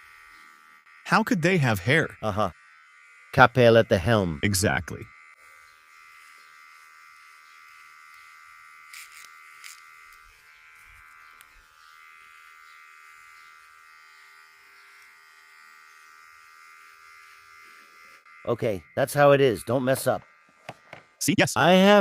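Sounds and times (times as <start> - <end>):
hair trimmer buzzing: 0.0 - 22.0.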